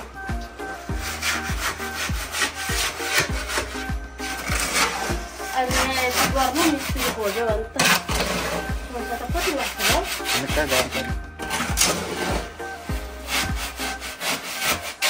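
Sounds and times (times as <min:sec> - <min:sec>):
shovel scraping wet concrete: 0:01.0 - 0:15.0.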